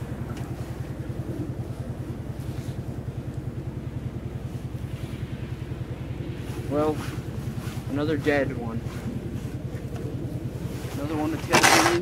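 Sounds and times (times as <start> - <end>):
pulsing mechanical drone: 0.0 - 12.0.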